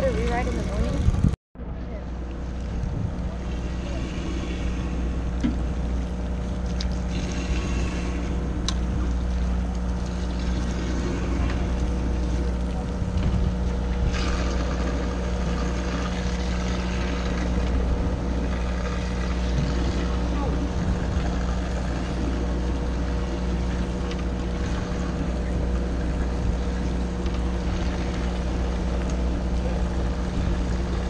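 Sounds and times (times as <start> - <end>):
boat engine humming: 0.0 - 31.0.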